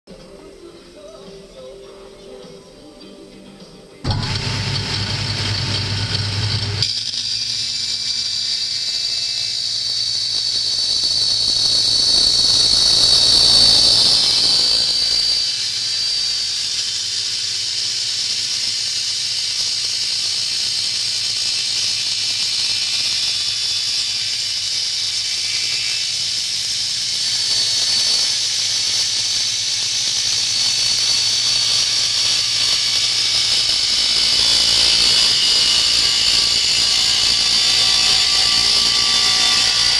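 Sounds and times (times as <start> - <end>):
circular saw cutting metal: 4.0 - 39.9.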